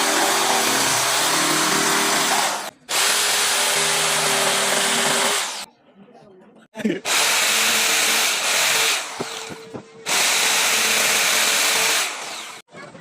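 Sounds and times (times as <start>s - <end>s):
power tool working wood: 0.0s - 5.7s, 7.1s - 12.6s.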